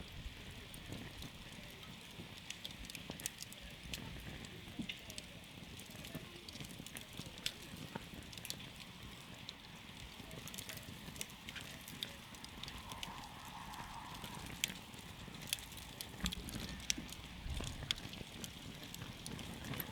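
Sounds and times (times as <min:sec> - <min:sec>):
burning wood popping: 0:00.0 - 0:19.9
flames rushing: 0:00.0 - 0:19.9.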